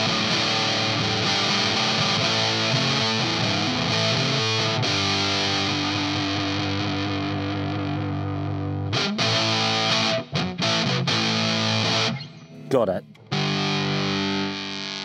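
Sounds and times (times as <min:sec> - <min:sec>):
fuzz electric guitar chords: 0:00.0 - 0:15.0.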